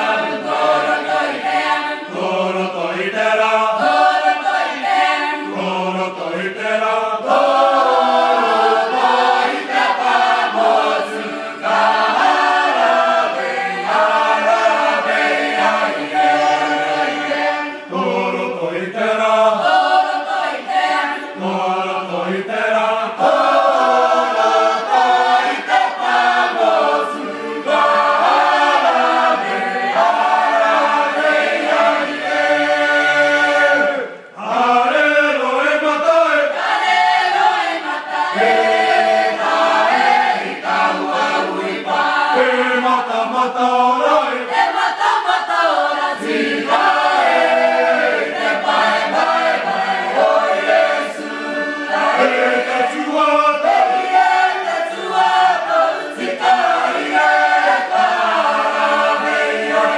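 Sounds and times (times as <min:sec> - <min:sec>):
mixed choir singing a hymn: 0:00.0 - 0:59.9.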